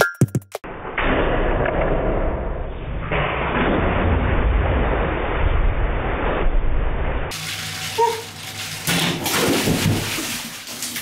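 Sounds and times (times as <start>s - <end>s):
slowed water splashing rumble: 0.8s - 11.0s.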